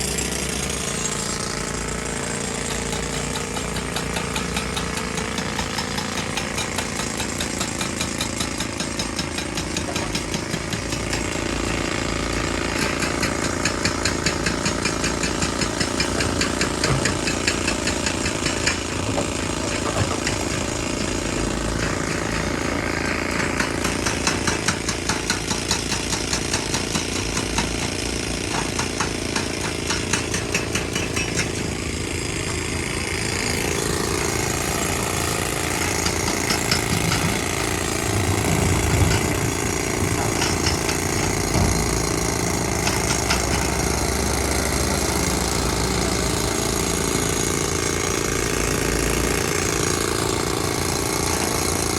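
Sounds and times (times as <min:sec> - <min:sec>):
heavy machinery engine noise: 0:00.0 - 0:51.9
rock crusher hammering: 0:00.0 - 0:51.9.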